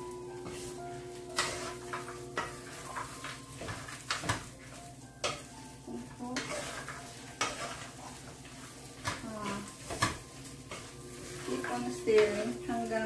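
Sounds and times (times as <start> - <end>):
wooden spatula scraping a frying pan: 0.2 - 13.0.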